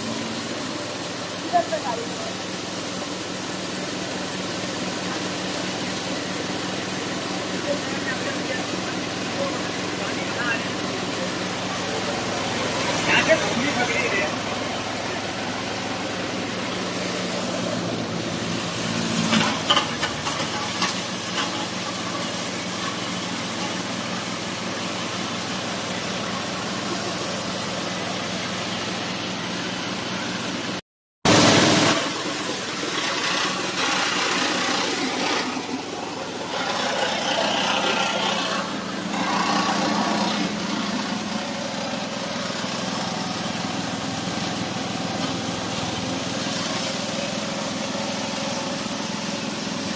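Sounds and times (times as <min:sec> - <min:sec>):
small petrol engine running thresher: 0:00.0 - 0:49.9.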